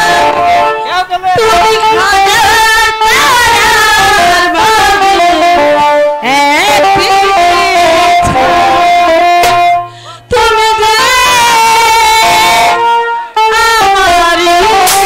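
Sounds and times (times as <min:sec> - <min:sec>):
string instrument melody: 0:00.0 - 0:15.0.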